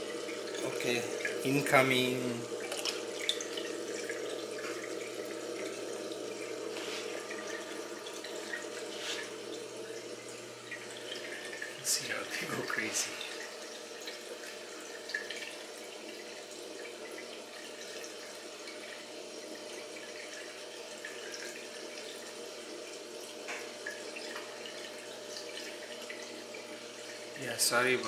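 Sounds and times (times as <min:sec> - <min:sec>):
water trickling and bubbling: 0:00.0 - 0:27.4
faint pump hum: 0:00.0 - 0:28.0
small water drips: 0:02.4 - 0:27.4.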